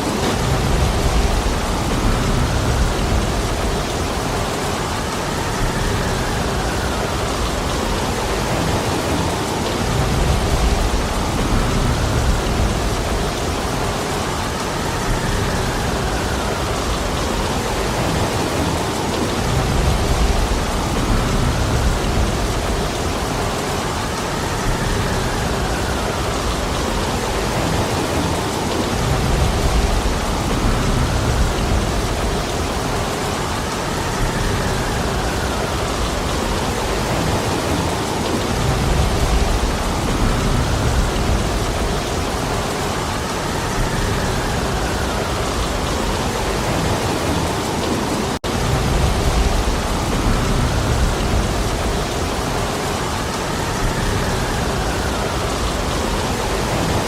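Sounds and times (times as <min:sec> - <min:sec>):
heavy rain: 0:00.0 - 0:57.0
rumbling wind gusts: 0:00.0 - 0:57.0.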